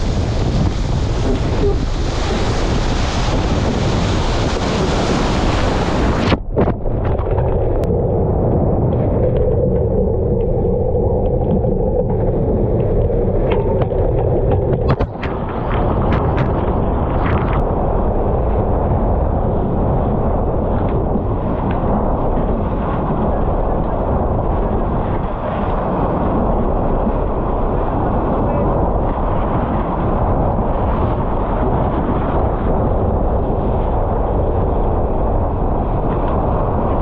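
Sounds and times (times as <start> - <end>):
water rushing along hull: 0.0 - 37.0
wind buffeting microphone: 0.0 - 37.0.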